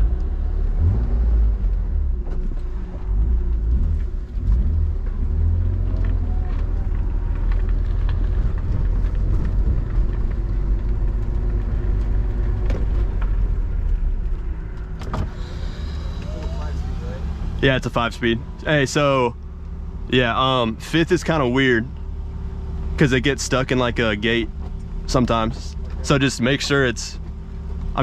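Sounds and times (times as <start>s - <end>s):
car engine rumbling: 0.0s - 28.0s.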